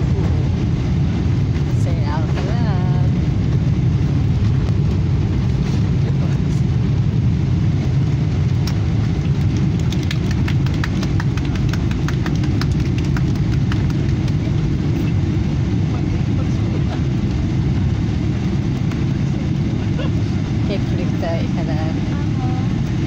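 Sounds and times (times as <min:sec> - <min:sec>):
airliner cabin rumble while taxiing: 0:00.0 - 0:23.0.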